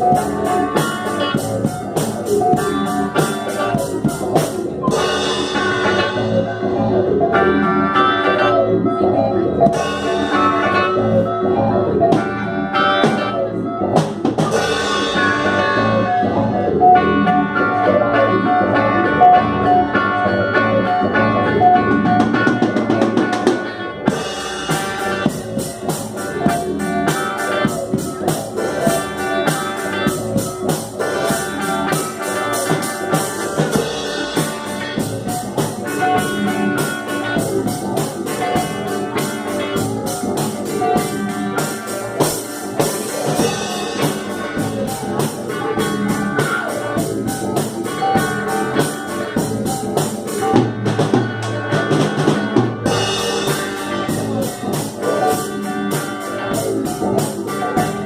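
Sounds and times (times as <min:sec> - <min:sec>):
drum kit beat: 0:00.0 - 0:08.5, 0:09.6 - 0:17.8, 0:18.4 - 0:58.0
electric guitars: 0:00.0 - 0:58.0.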